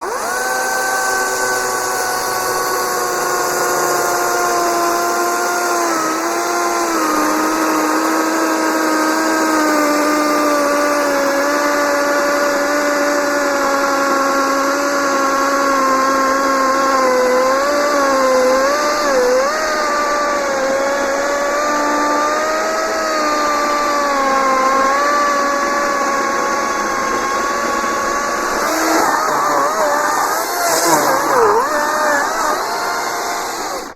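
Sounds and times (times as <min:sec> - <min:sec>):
electric chainsaw cutting wood: 0:00.0 - 0:33.9.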